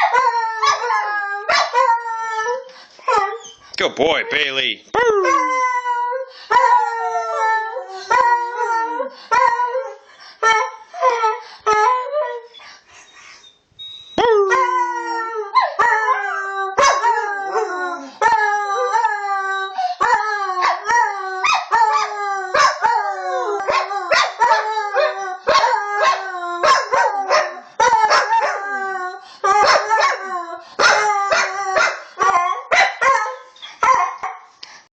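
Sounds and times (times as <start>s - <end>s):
dogs howling and yipping: 0.0s - 3.6s, 5.0s - 12.6s, 14.2s - 34.4s.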